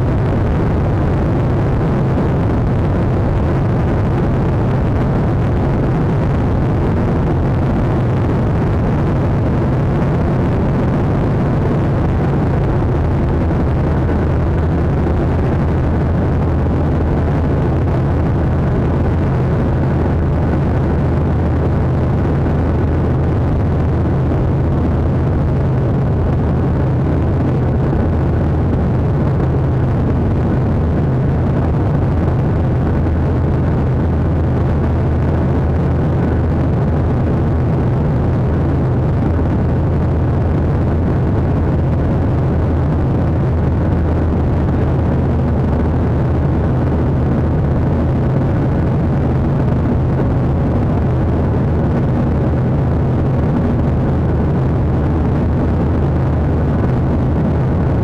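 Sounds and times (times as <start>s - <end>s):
jet engines droning in cabin: 0.0s - 58.0s
rushing air: 0.0s - 58.0s.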